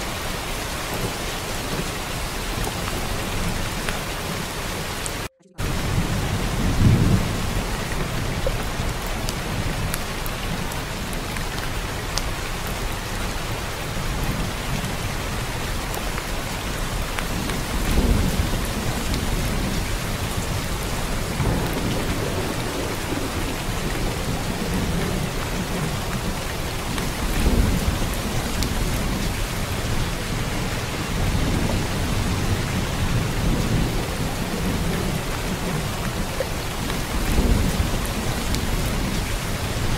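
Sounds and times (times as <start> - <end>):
steady rain: 0.0 - 39.9
rolling thunder: 5.6 - 11.9, 13.8 - 39.9.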